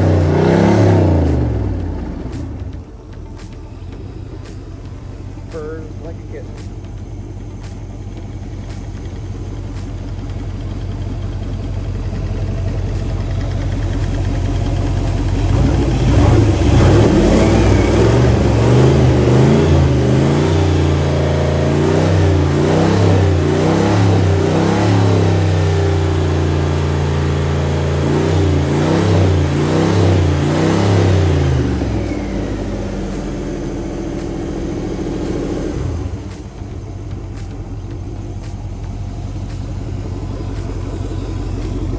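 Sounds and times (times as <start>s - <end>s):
boat engine idling and revving: 0.0s - 41.9s.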